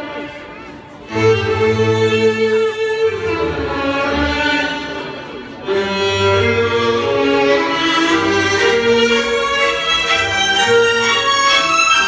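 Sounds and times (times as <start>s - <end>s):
orchestral music with strings: 0.0s - 12.0s.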